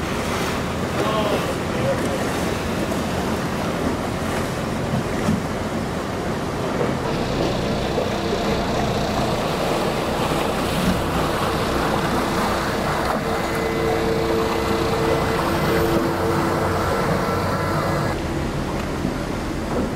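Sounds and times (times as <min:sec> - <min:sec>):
speedboat engine hum: 0:00.0 - 0:19.9
water rushing past hull: 0:00.0 - 0:19.9.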